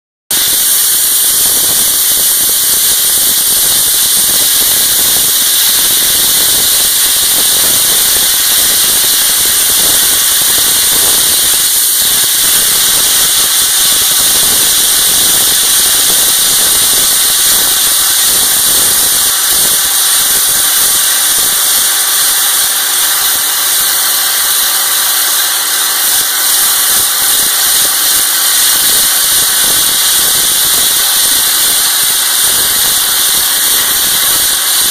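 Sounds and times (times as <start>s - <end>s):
blast nozzle hissing: 0.3s - 34.9s.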